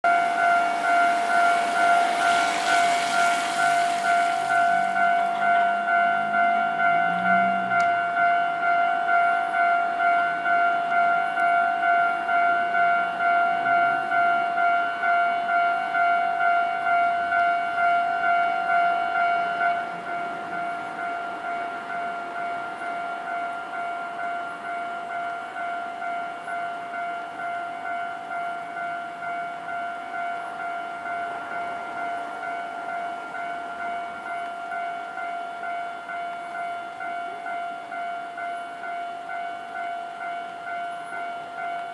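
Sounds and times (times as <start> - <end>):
level crossing alarm bell: 0.0 - 41.9.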